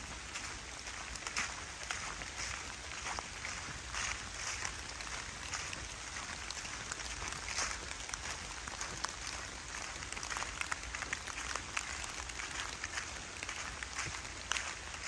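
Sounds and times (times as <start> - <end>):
footsteps in fallen leaves: 0.0 - 15.0
rain on forest canopy: 0.0 - 15.0
raindrops ticking: 0.2 - 15.0.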